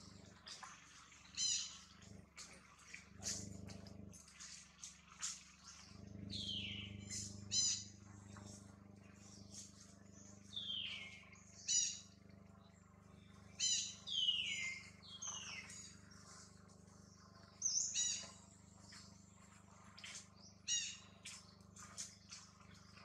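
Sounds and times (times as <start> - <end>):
birds chirping sharply: 0.3 - 2.1, 5.4 - 23.0.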